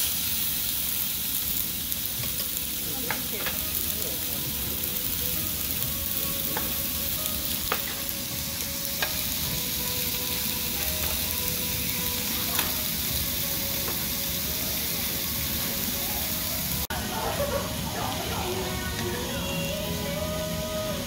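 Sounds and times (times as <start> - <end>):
meat sizzling on a grill: 0.0 - 21.0.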